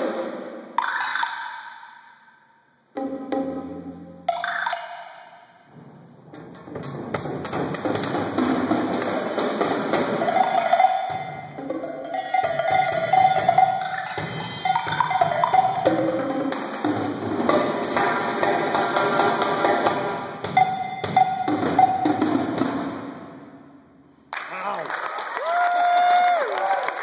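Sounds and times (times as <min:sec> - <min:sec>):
drum kit and percussion playing: 0:00.0 - 0:01.6, 0:03.0 - 0:23.7.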